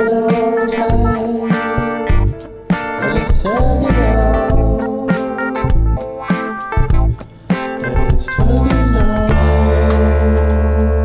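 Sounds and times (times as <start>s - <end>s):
funk music: 0.0s - 11.0s.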